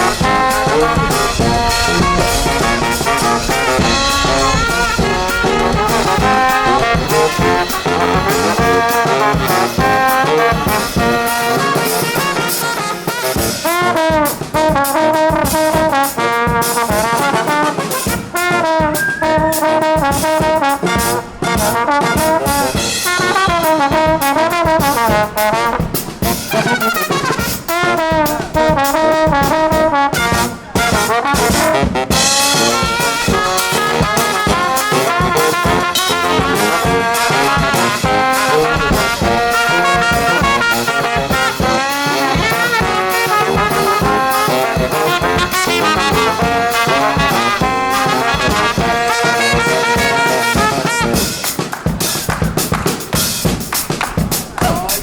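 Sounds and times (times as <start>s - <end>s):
steady drum beat: 0.0s - 55.0s
trumpets and trombones playing melody: 0.0s - 55.0s.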